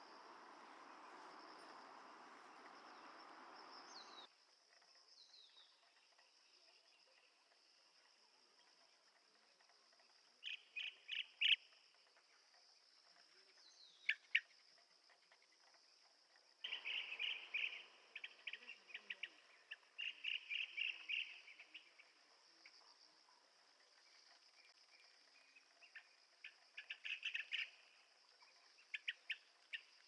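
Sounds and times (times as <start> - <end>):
high insect hum: 0.0 - 30.0.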